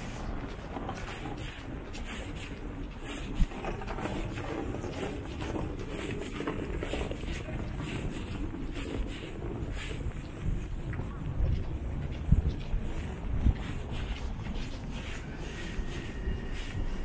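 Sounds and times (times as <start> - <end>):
footsteps on brick paving: 0.0 - 17.0
street traffic rumble: 0.0 - 17.0.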